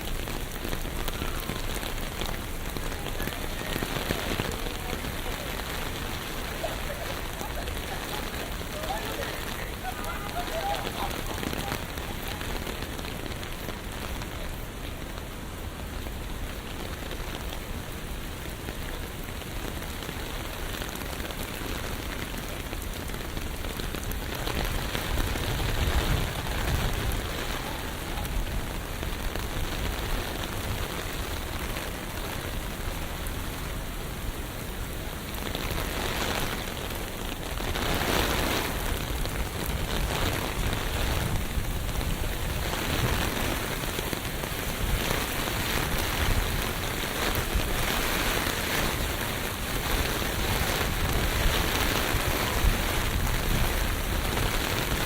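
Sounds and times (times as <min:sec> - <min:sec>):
rain falling on street: 0:00.0 - 0:55.0.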